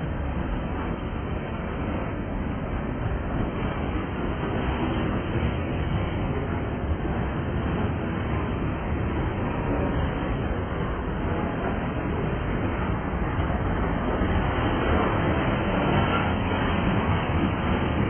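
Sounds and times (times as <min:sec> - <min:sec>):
freight train rolling past: 0:00.0 - 0:18.0
steel wheels on rails: 0:00.0 - 0:18.0.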